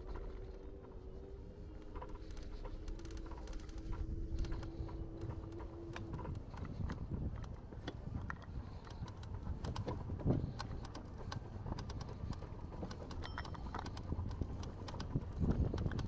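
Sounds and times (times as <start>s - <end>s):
steady low street rumble: 0.0s - 16.0s
light irregular clicks and taps: 1.8s - 16.0s.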